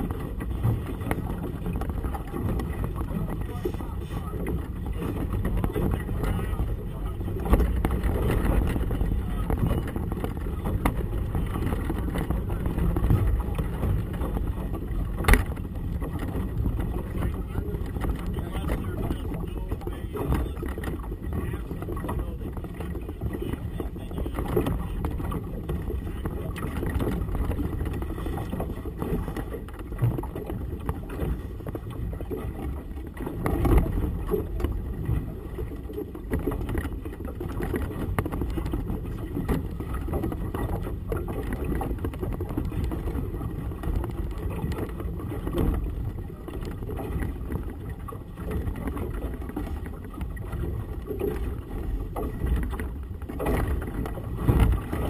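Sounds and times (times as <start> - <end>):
water slapping against hull: 0.0 - 55.0
wind buffeting microphone: 0.0 - 55.0.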